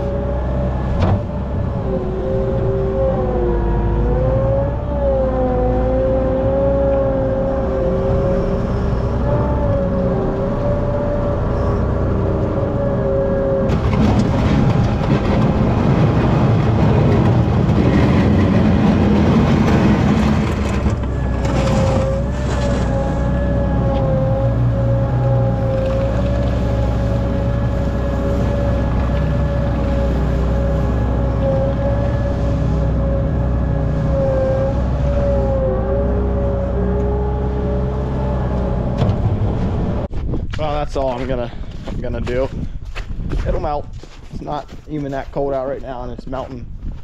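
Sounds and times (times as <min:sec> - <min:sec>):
loader engine running: 0:00.0 - 0:40.2.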